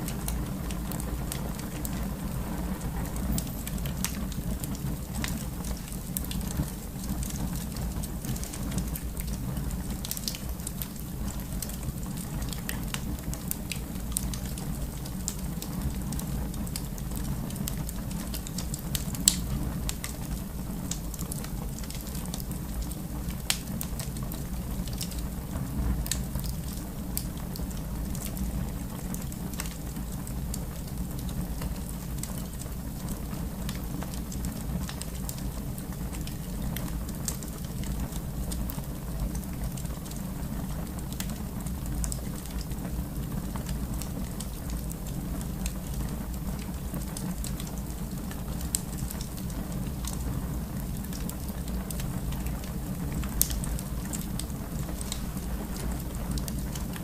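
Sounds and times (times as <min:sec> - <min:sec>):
fire popping: 0:00.0 - 0:57.0
fire roaring and crackling: 0:00.0 - 0:57.0.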